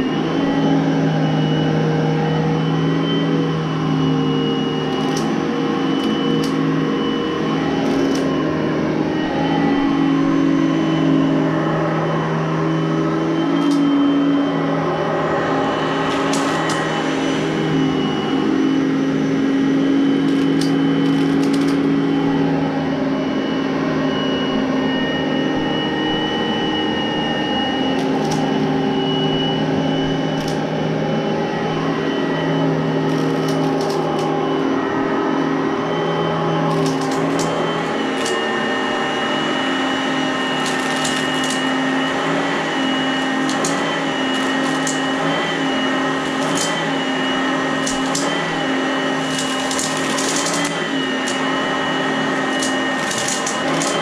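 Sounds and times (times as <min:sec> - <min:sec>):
vacuum cleaner whining: 0:00.0 - 0:54.0.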